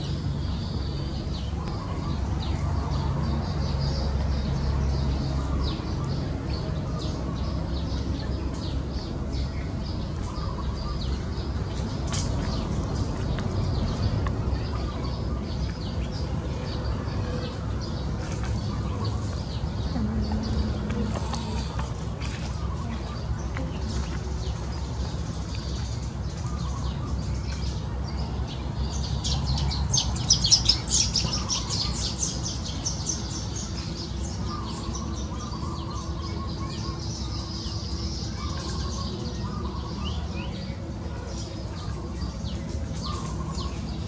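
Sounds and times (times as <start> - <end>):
small birds chirping: 0.0 - 44.0
steady low rumble: 0.0 - 44.0.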